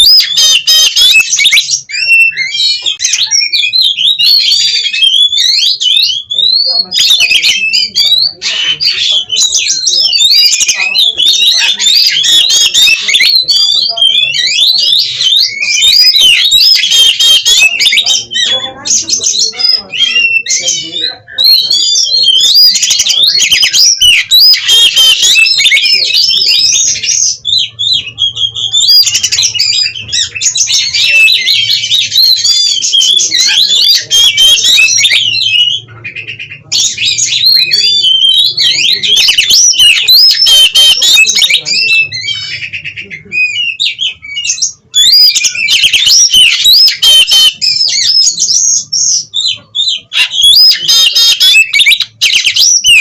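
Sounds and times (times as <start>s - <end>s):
songbird singing loudly: 0.0s - 53.0s.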